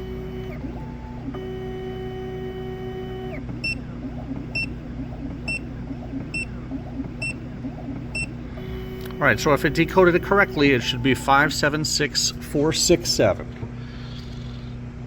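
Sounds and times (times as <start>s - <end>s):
key machine motors whining: 0.0s - 14.8s
low hum: 0.0s - 15.0s.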